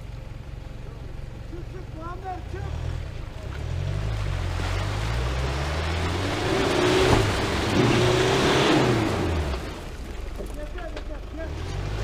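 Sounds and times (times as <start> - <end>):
tyres churning through mud: 1.2 - 12.0
truck engine revving: 1.4 - 12.0.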